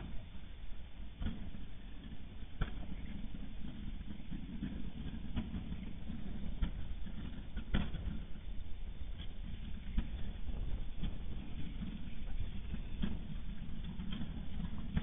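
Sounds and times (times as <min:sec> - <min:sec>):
low rumbling hiss: 0:00.0 - 0:15.0.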